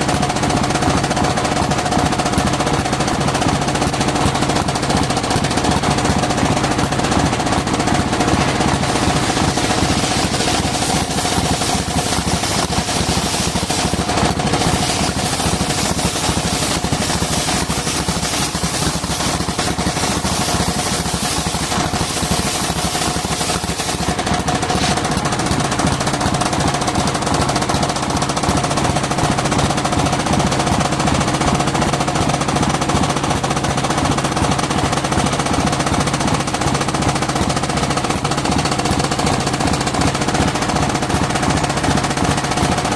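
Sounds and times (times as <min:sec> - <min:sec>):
sawmill engine chugging: 0:00.0 - 0:42.9.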